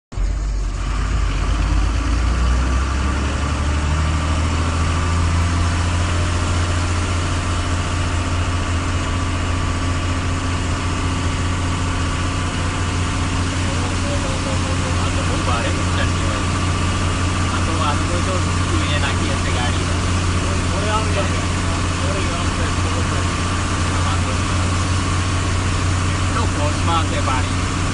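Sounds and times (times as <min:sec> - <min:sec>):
road and cab noise: 0:00.1 - 0:27.9
truck engine droning: 0:00.1 - 0:27.9.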